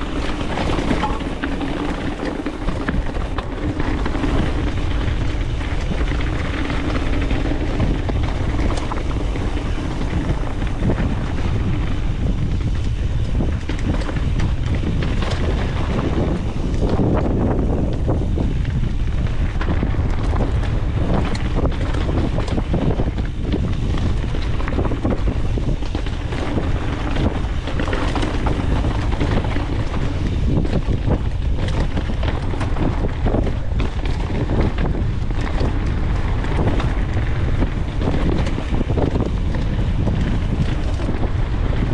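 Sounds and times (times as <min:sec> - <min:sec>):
bike knocks and rattles: 0:00.0 - 0:41.9
tyres rolling on rough trail: 0:00.0 - 0:41.9
wind buffeting microphone: 0:00.0 - 0:41.9.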